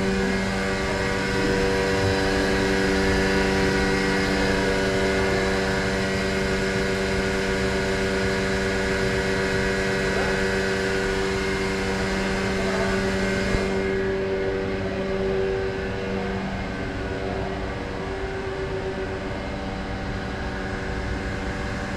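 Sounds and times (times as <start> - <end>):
machine humming with steady tones: 0.0 - 21.9.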